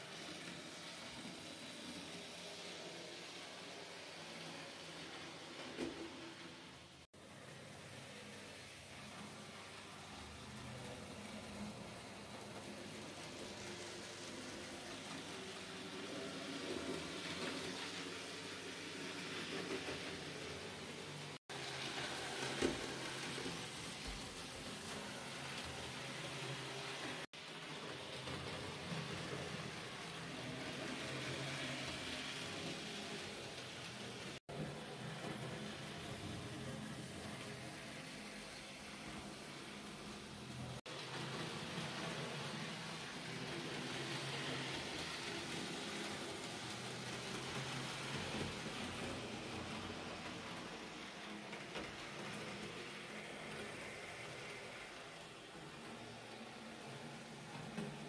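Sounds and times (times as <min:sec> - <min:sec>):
model train whirring hiss: 0:00.0 - 0:58.0
small locomotive motor: 0:00.0 - 0:58.0.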